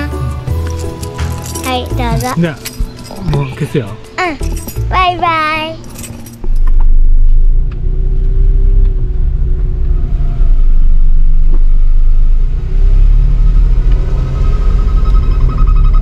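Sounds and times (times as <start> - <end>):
road noise: 0.0 - 16.0
vehicle engine rumble: 0.0 - 16.0.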